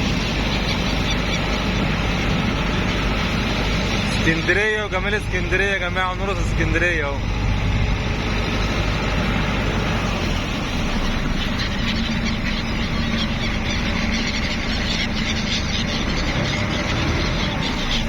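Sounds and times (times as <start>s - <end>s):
constant dense noise: 0.0s - 18.0s
engine rumble: 0.0s - 18.0s.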